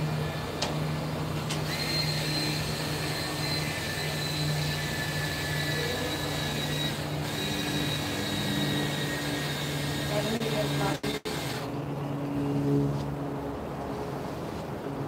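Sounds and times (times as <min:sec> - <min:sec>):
electric motor humming and whining: 0:00.0 - 0:13.9.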